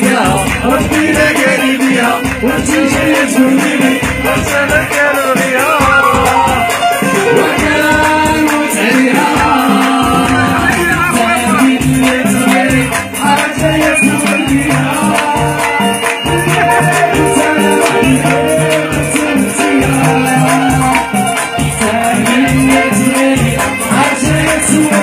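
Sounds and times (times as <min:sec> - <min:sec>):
loud band music: 0:00.0 - 0:25.0
shaken rattle percussion: 0:00.0 - 0:25.0.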